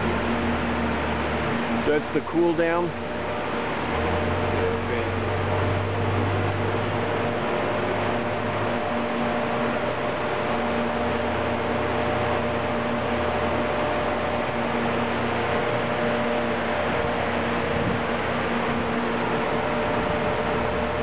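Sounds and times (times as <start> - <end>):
cooling fans blowing: 0.0 - 21.0
machine hum: 0.0 - 21.0.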